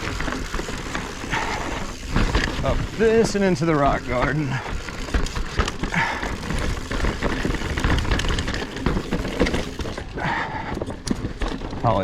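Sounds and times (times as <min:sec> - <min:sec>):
bike knocking and rattling: 0:00.0 - 0:12.0
bike tyres rolling over rock: 0:00.0 - 0:12.0.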